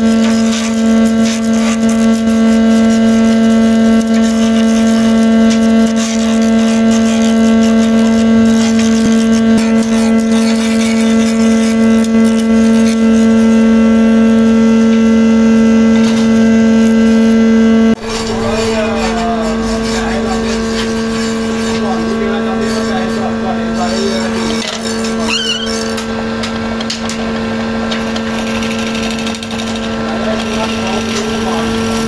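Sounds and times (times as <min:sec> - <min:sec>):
lathe motor hum: 0:00.0 - 0:25.3, 0:25.9 - 0:32.0.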